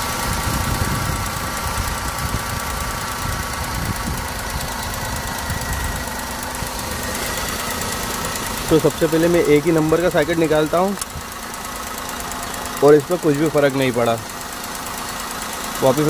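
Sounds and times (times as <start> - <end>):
car engine idling unevenly: 0.0 - 16.0.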